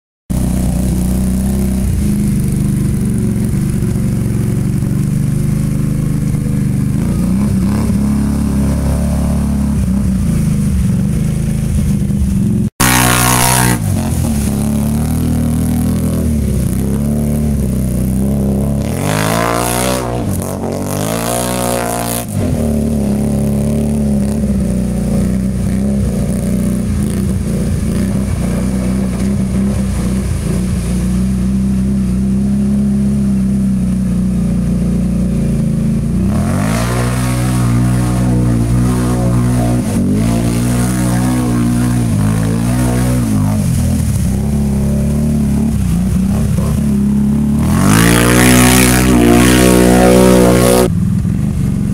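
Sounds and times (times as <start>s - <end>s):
atv engine revving: 0.3s - 51.9s
water spraying off tyres: 0.3s - 51.9s.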